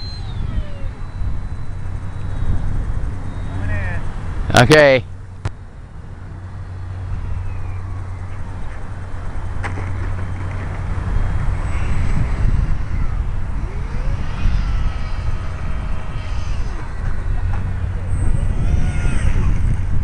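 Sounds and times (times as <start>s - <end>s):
electric motor whine: 0.0s - 20.0s
wind buffeting microphone: 0.0s - 20.0s.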